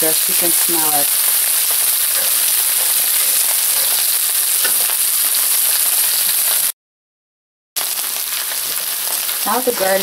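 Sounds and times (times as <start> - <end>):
food sizzling in pans: 0.0 - 6.8, 7.8 - 10.0.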